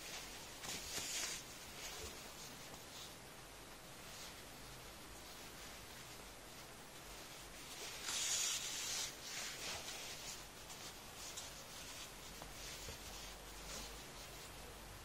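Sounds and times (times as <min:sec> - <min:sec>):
yarn rustling through fabric: 0:00.0 - 0:15.0.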